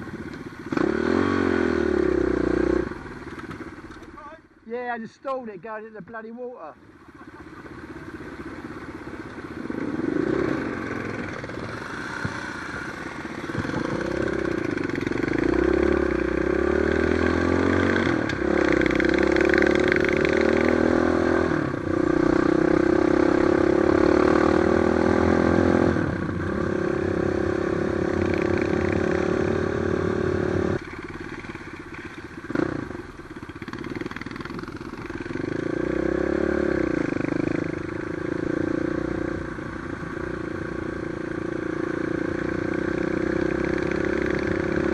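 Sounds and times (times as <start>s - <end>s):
motorcycle engine revving: 0.0s - 4.4s, 6.8s - 44.9s.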